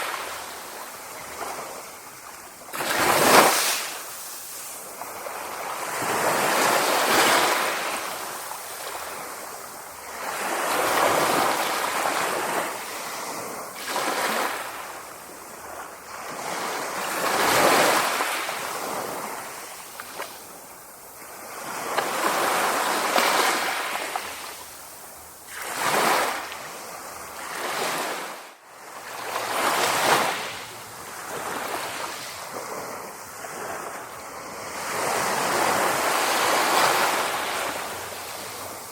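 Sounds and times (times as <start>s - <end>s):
sea waves washing ashore: 0.0s - 38.9s.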